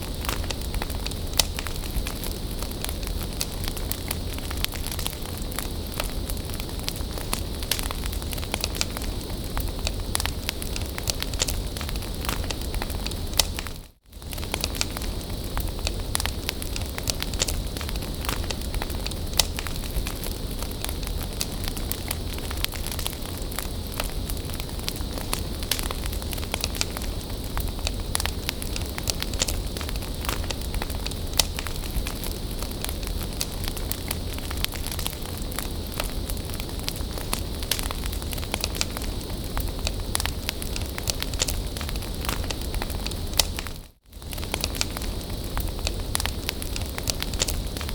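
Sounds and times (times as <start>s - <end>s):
bonfire crackling and popping: 0.0s - 47.9s
low rush of burning wood: 0.0s - 47.9s.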